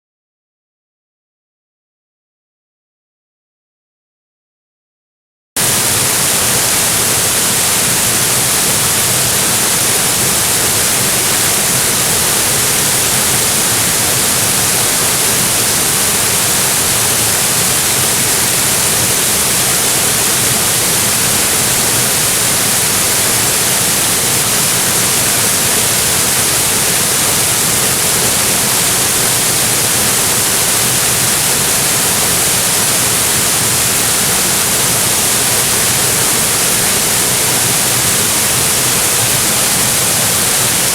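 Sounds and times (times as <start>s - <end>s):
waterfall rushing: 5.6s - 40.9s.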